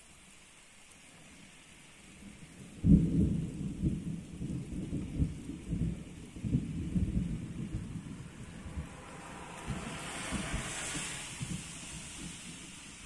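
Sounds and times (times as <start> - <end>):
faint steady hiss: 0.0 - 13.0
thunder clap and rumble: 2.3 - 13.0.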